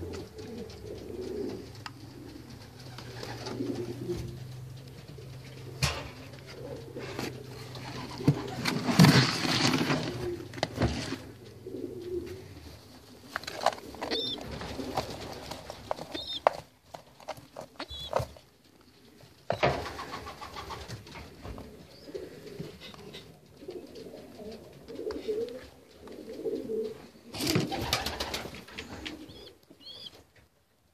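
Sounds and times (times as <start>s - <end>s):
pigeons cooing: 0.0s - 16.6s, 17.2s - 30.2s
rustling and knocks: 0.0s - 29.3s.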